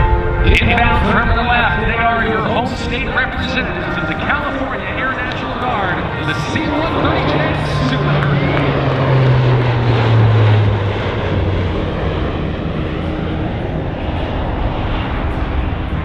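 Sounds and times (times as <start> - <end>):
propeller aircraft flying past: 0.0 - 16.0.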